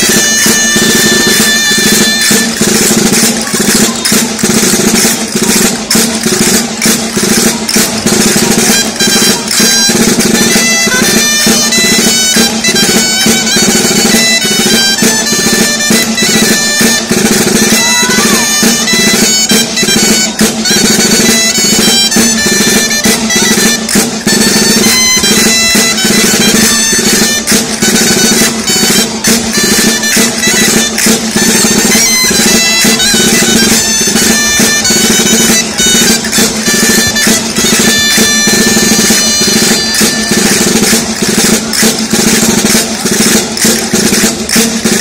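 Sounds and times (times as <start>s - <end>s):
drum keeping beat: 0.0s - 45.0s
shawm playing dance tune: 0.0s - 45.0s.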